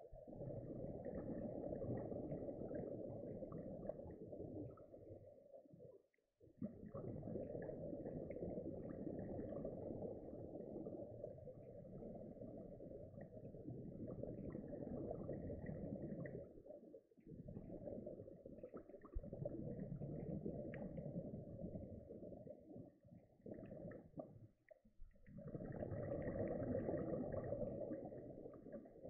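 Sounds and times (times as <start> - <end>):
muffled underwater rushing: 0.0 - 6.0, 6.6 - 29.0.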